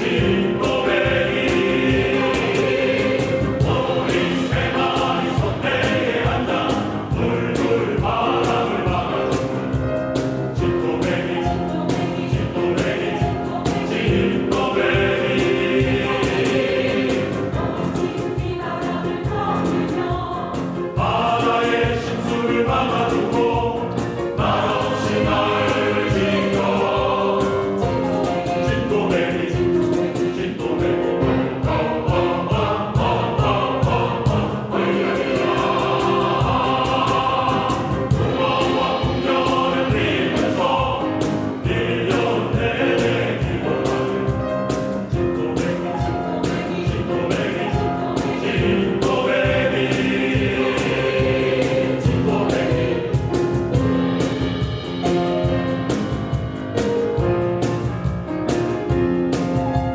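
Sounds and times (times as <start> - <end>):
mixed choir singing in harmony: 0.0 - 59.9
rhythmic accompaniment: 0.0 - 59.9.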